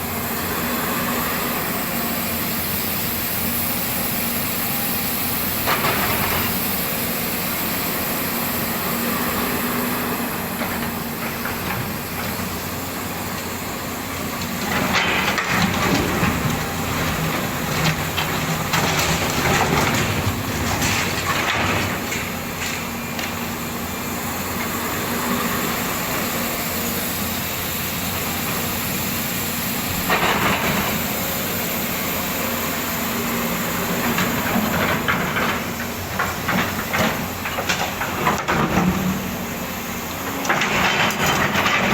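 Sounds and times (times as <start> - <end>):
excavator diesel engine running: 0.0 - 41.9
rough clatter and hiss: 0.1 - 41.9.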